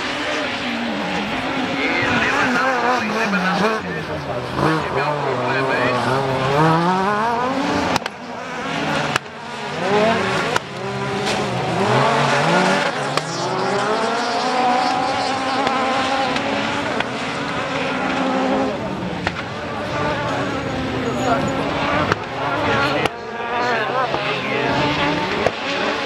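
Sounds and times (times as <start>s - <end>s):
racing car engines revving: 0.0s - 26.0s.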